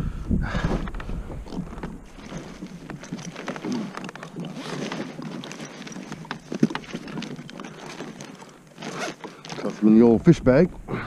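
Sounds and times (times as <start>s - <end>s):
fabric bag rustling: 1.4s - 10.3s.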